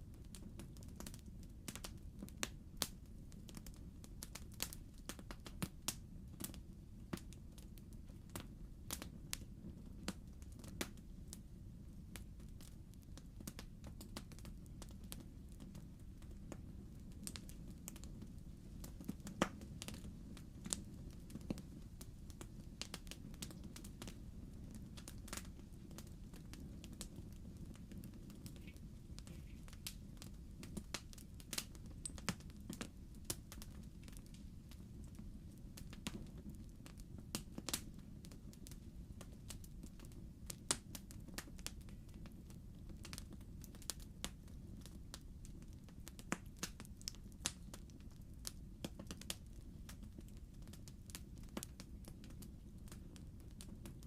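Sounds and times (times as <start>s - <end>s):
fire low rumble: 0.0s - 54.0s
logs crackling and popping: 0.1s - 11.5s, 12.1s - 54.0s.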